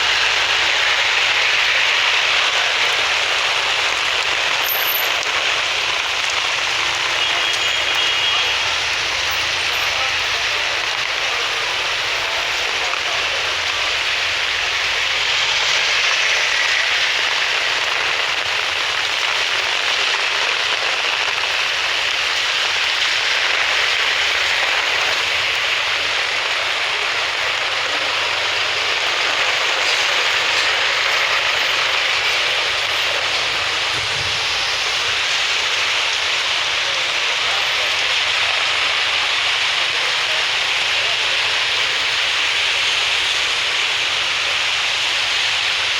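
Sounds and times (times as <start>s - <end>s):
rain falling on street: 0.0s - 45.9s.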